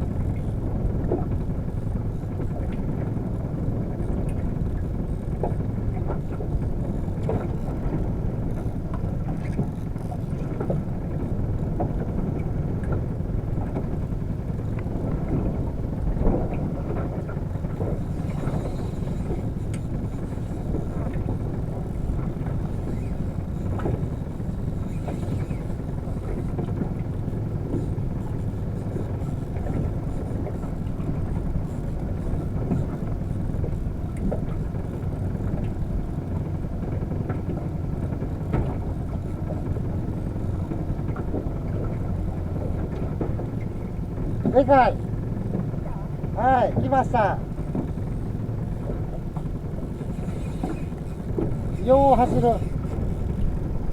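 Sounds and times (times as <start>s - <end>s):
boat engine rumble: 0.0s - 53.9s
water slapping against hull: 0.0s - 53.9s.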